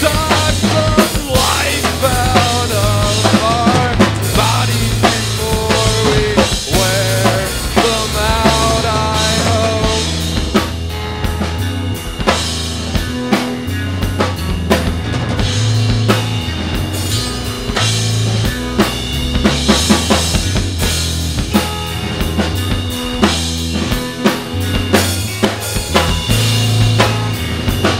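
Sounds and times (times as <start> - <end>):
bending electric guitar lead: 0.0 - 27.9
drum kit: 0.0 - 27.9
electric bass: 0.0 - 27.9.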